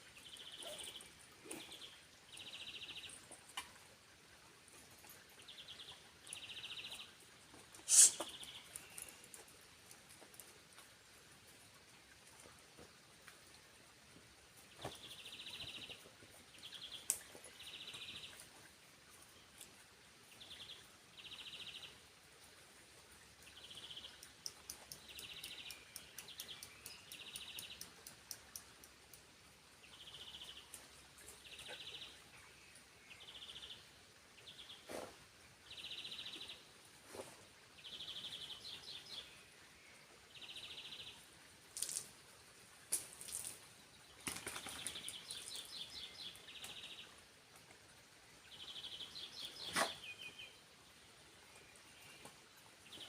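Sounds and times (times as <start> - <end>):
faint steady background noise: 0.0 - 53.0.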